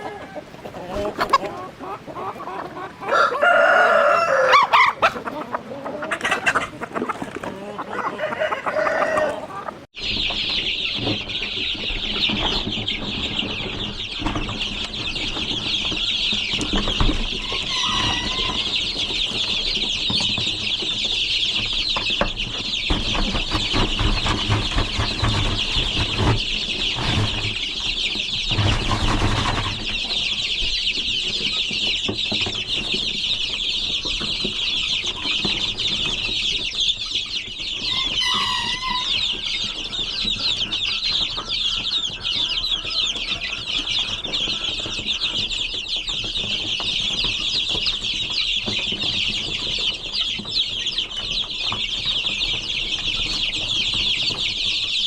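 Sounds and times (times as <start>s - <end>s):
chicken clucking: 0.0s - 55.0s
chicks peeping: 0.0s - 55.0s.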